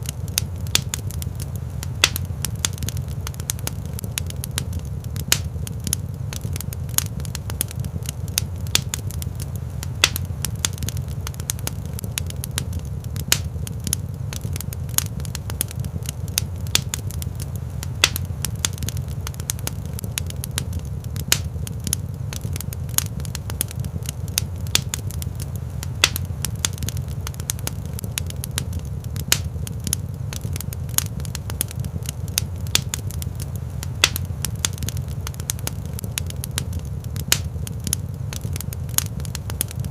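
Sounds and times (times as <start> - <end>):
fire low rumble: 0.0 - 39.9
fire popping and crackling: 0.0 - 39.9.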